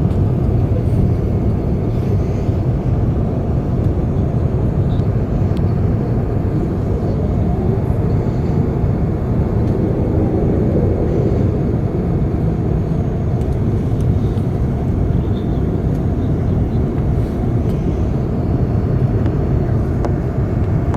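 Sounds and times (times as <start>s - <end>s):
airplane cabin rumble: 0.0s - 20.9s.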